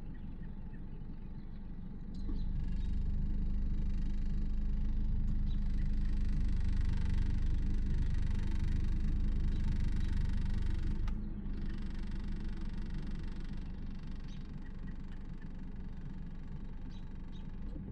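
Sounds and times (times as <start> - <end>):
low motor rumble: 0.0 - 17.9.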